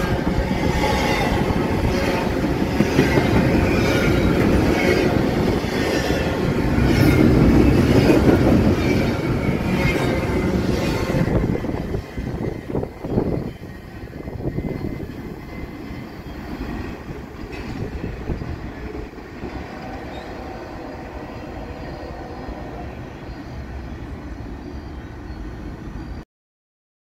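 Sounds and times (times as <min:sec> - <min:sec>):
freight train rumbling on rails: 0:00.0 - 0:26.2.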